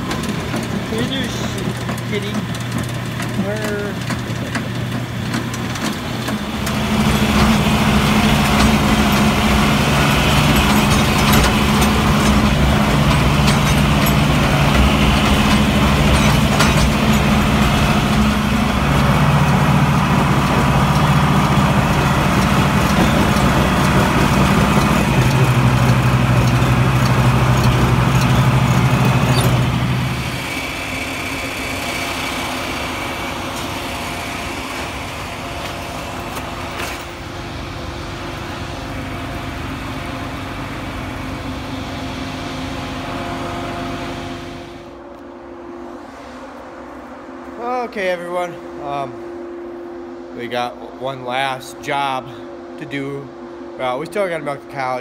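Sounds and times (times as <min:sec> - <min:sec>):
tractor engine running: 0:00.0 - 0:45.8.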